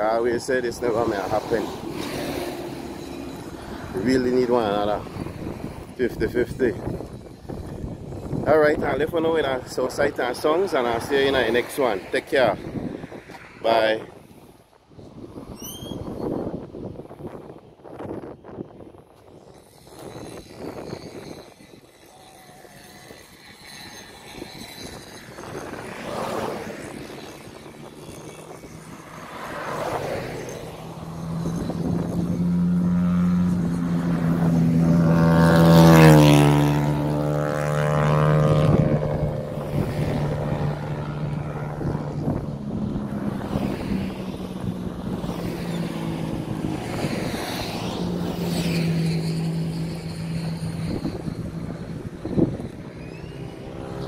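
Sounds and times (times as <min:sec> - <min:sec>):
vehicle engine passing by: 0:00.0 - 0:18.3, 0:19.6 - 0:54.0
vehicles whooshing past: 0:00.0 - 0:54.0.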